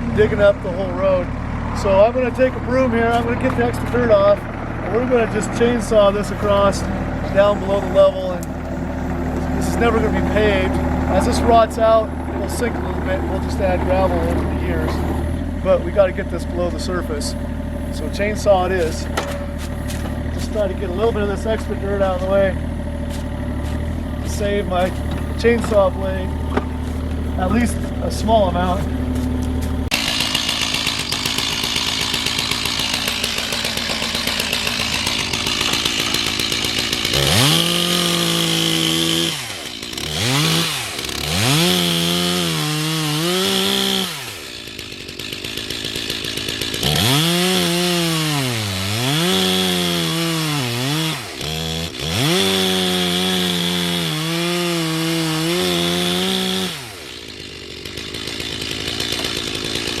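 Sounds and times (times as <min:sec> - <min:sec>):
chainsaw revving and cutting: 0:00.0 - 1:00.0.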